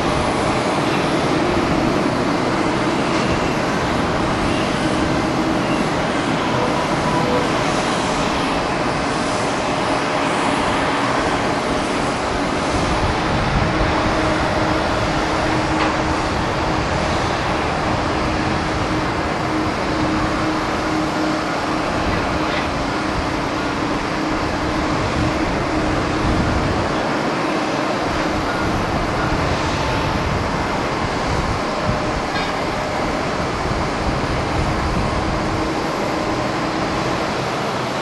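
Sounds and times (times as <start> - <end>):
jet engines rumbling: 0.0 - 38.0.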